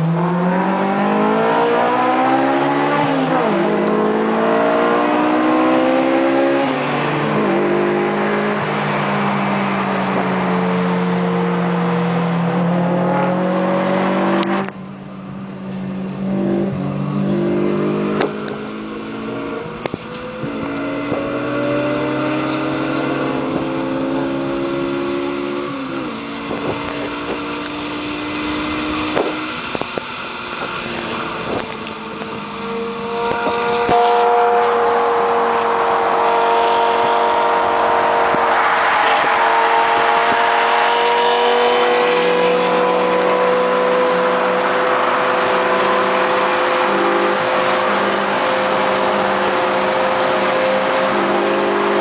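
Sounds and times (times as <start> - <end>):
car engine at speed: 0.0 - 52.0
rushing wind and road noise: 0.0 - 52.0.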